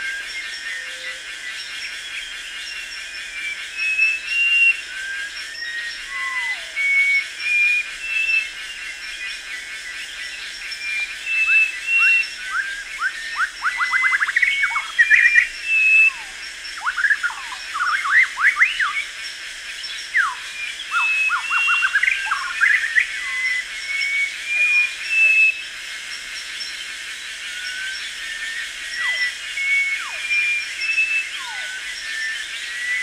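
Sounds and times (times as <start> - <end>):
birds chirping and whistling: 0.0 - 9.1, 10.2 - 19.2, 19.9 - 33.0.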